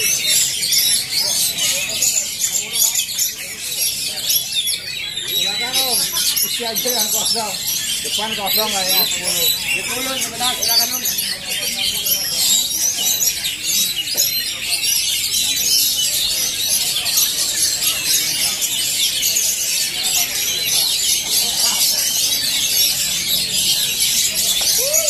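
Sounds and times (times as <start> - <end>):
chorus of songbirds singing: 0.0 - 25.0.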